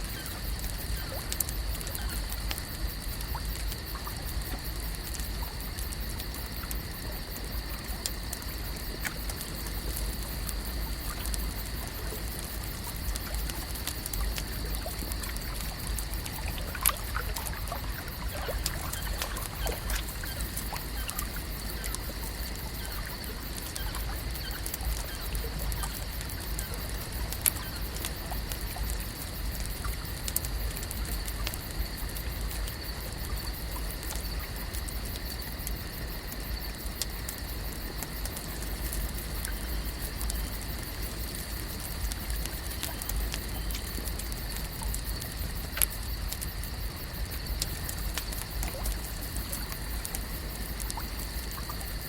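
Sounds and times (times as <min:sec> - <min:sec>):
small clicks and ticks: 0:00.0 - 0:52.0
water trickling and lapping: 0:00.0 - 0:52.0.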